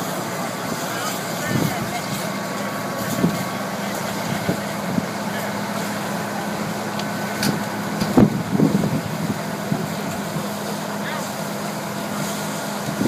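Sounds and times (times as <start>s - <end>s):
diesel engine running steadily: 0.0s - 13.0s.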